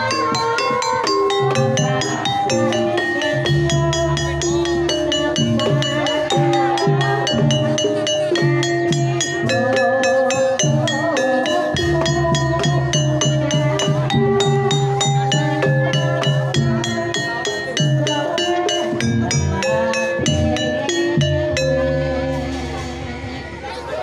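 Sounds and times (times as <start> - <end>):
hand drum beating: 0.0 - 22.5
struck tuned keys: 0.0 - 23.4.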